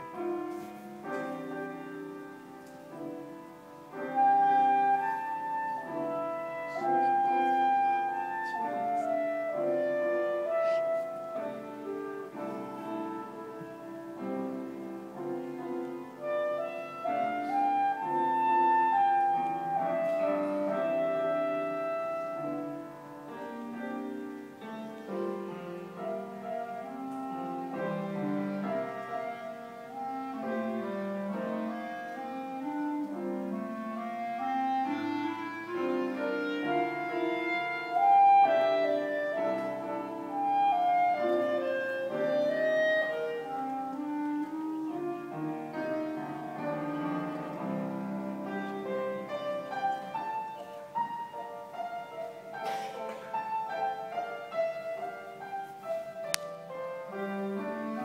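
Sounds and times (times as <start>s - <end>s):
clarinet melody: 0.0s - 58.0s
piano accompaniment: 0.0s - 58.0s.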